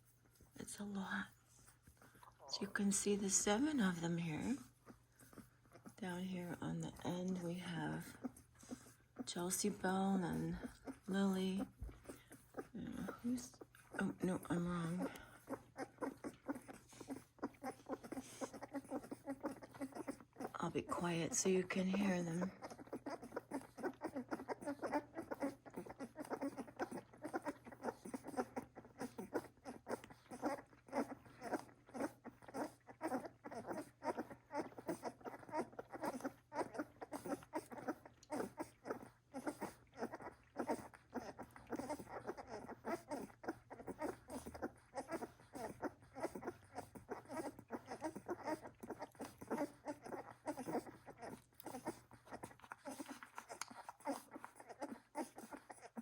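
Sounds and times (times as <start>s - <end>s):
puppies suckling: 0.0s - 56.0s.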